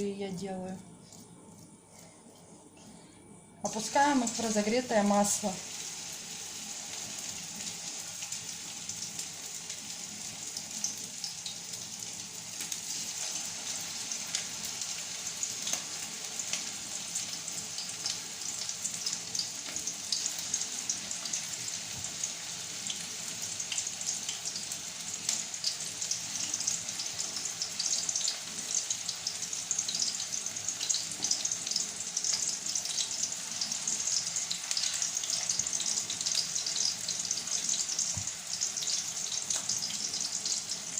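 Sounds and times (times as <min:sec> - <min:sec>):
meatballs sizzling in hot oil: 0:03.6 - 0:40.9.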